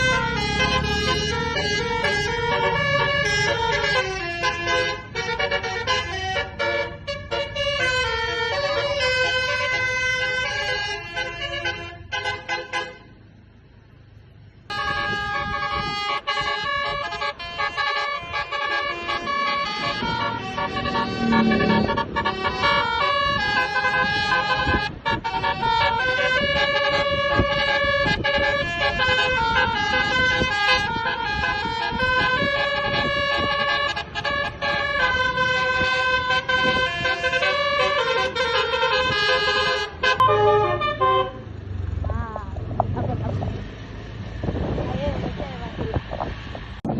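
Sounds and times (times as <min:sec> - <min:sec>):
multi-tone air horn tune: 0:00.1 - 0:13.0, 0:14.7 - 0:41.4.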